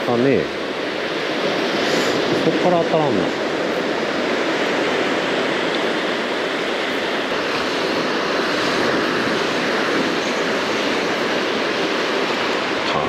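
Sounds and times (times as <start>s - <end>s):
surf breaking on beach: 0.0s - 13.0s
wind noise on microphone: 0.0s - 13.0s.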